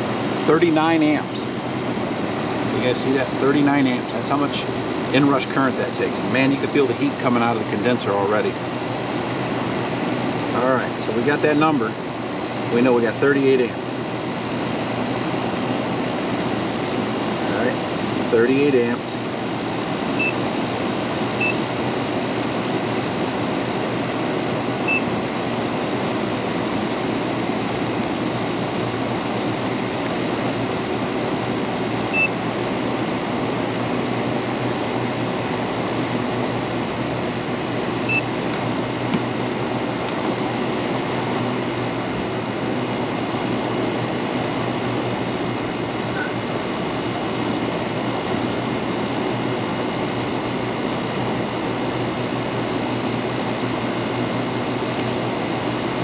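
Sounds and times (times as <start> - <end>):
air conditioner fan and compressor: 0.0 - 56.0.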